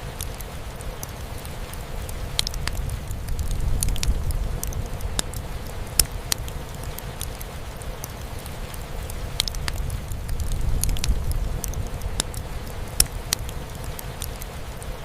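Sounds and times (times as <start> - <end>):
rain hissing: 0.0 - 15.0
wood fire crackling and popping: 0.0 - 15.0.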